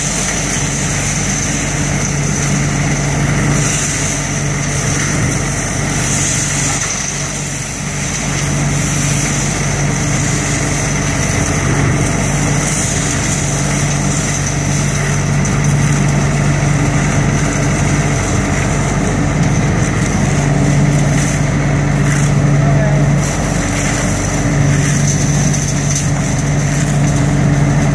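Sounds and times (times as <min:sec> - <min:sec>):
leaf vacuum running: 0:00.0 - 0:27.9.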